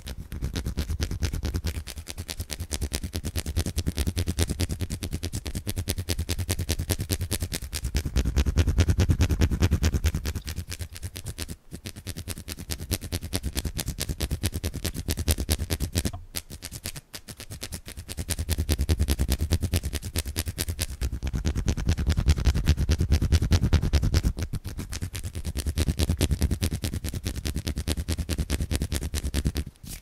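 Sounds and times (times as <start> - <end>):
hands rubbing rhythmically: 0.0 - 30.0.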